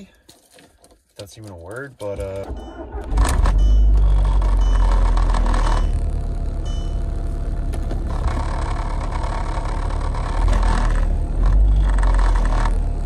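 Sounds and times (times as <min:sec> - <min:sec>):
car engine drone from inside: 0:02.1 - 0:13.0.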